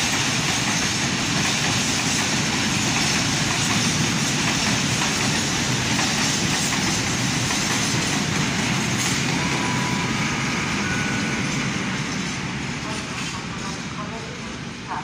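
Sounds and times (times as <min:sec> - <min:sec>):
diesel locomotive engine running: 0:00.0 - 0:15.0
train wheels clattering over rails: 0:00.0 - 0:15.0.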